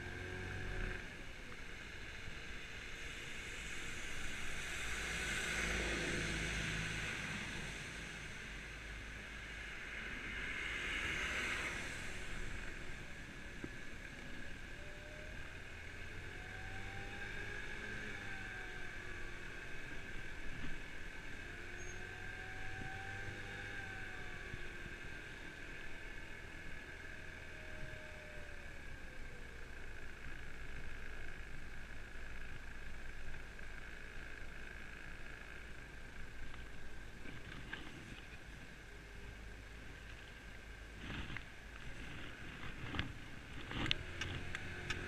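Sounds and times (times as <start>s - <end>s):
wind and tyres on wet road: 0.0s - 45.0s.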